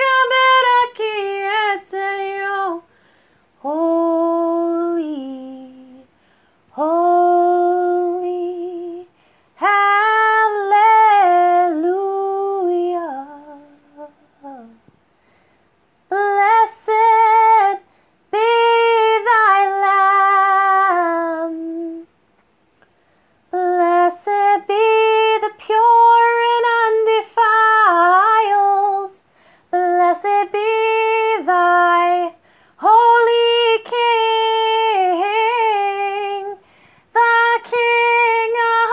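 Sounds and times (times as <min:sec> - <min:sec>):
woman singing unaccompanied: 0:00.0 - 0:03.0, 0:03.6 - 0:14.9, 0:16.1 - 0:22.1, 0:23.5 - 0:38.9.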